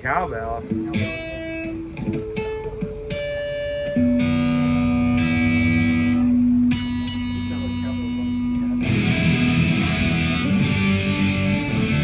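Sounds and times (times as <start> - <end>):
electric guitar notes and chord: 0.3 - 12.0.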